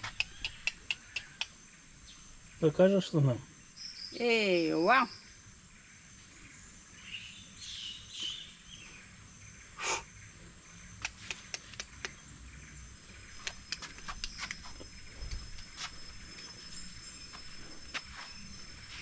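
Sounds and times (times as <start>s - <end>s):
birds chirping and calling: 0.0s - 19.0s
faint insects: 0.0s - 19.0s.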